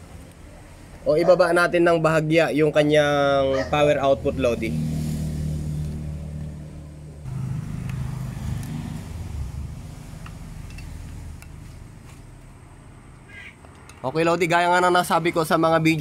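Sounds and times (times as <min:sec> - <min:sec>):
vehicle engine humming: 0:02.2 - 0:16.0.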